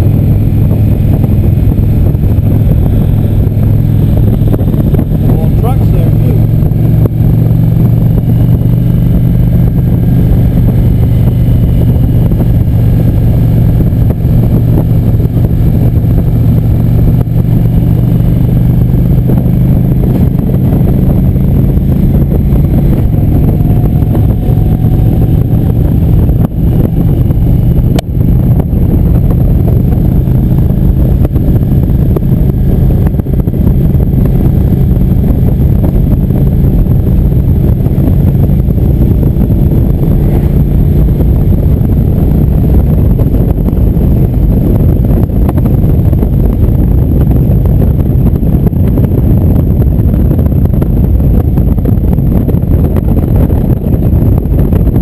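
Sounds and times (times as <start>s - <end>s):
motorcycle engine at highway speed: 0.0s - 55.0s.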